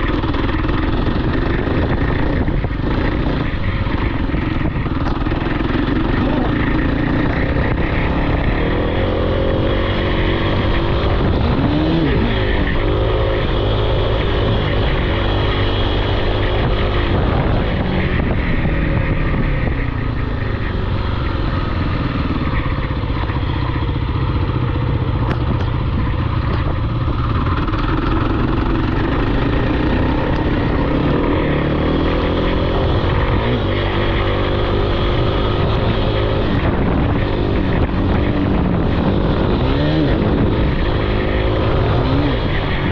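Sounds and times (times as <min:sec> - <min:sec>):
off-road vehicle engine revving: 0:00.0 - 0:42.9.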